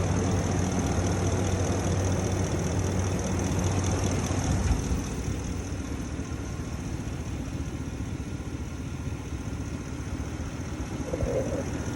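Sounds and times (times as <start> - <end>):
pickup engine idling: 0.0 - 11.9.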